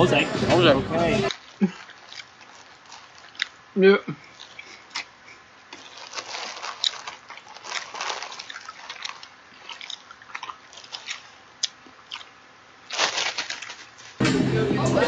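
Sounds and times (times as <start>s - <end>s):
person chewing food: 1.3s - 14.2s.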